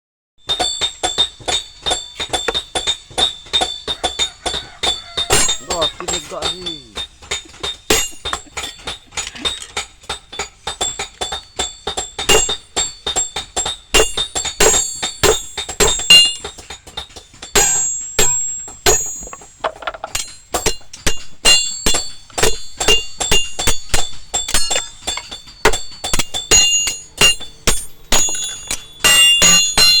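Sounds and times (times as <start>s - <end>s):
hammer striking metal on anvil: 0.4s - 30.0s.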